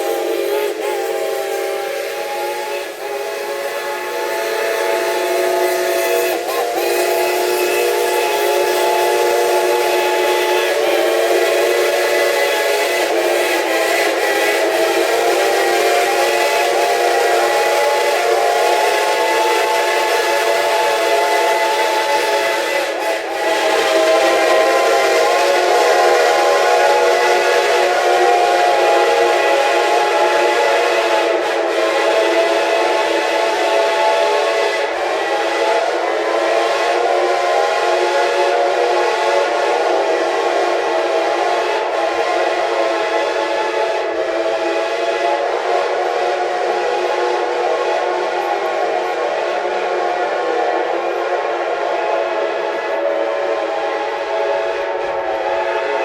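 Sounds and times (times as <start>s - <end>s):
steam locomotive whistles chord: 0.0s - 56.0s.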